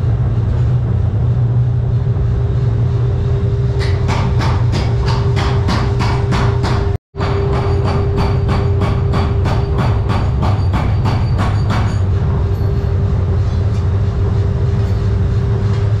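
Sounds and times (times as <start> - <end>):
machinery hum and rumble: 0.0 - 16.0.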